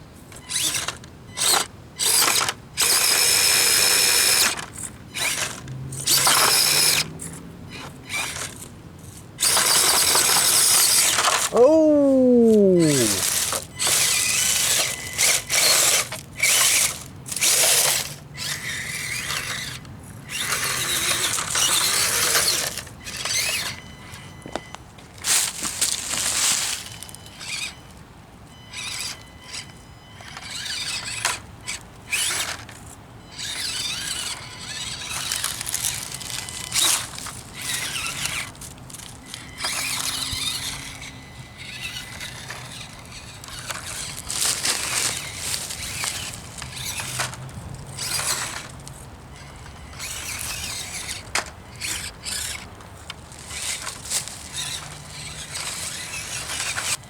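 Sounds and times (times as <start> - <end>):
small electric motor whining: 0.4 - 24.6, 25.2 - 28.0, 28.6 - 57.0.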